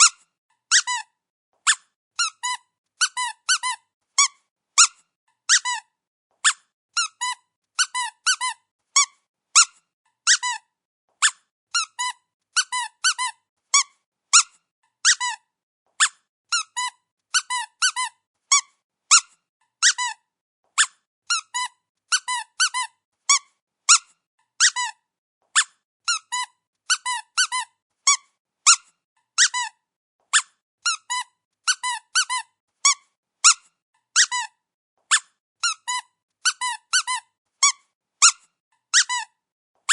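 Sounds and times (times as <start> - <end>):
squeaky toy squeaks: 0.0 - 39.9.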